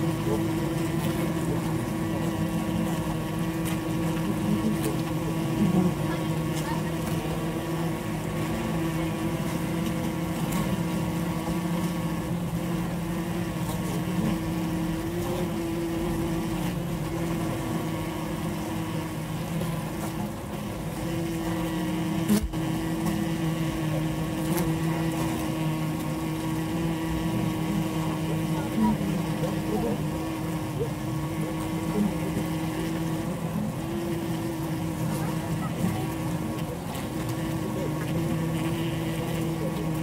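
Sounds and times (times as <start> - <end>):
bees droning in hive: 0.0 - 40.0.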